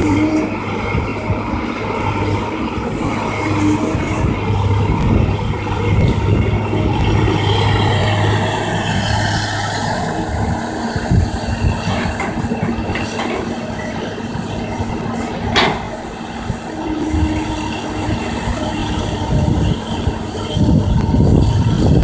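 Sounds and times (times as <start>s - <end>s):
excavator diesel engine running: 0.0s - 22.0s
high whine gliding down: 0.0s - 22.0s.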